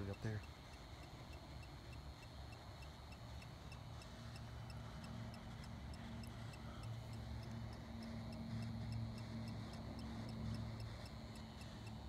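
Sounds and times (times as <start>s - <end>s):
faint electronic ticking: 0.0s - 12.0s
low steady hum: 0.0s - 12.0s.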